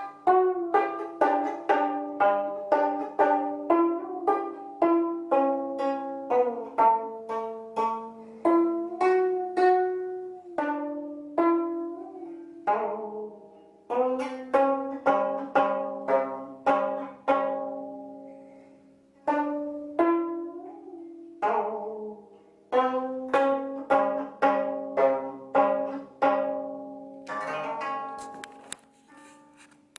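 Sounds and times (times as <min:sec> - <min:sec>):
zither plucked melody: 0:00.0 - 0:29.9.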